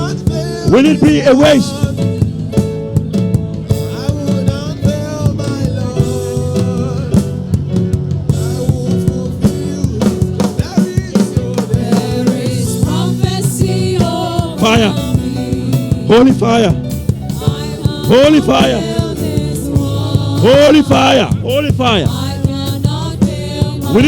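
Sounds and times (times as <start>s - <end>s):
drum kit steady beat: 0.0s - 24.0s
sustained held chords: 0.0s - 24.0s
worship music: 0.0s - 24.0s.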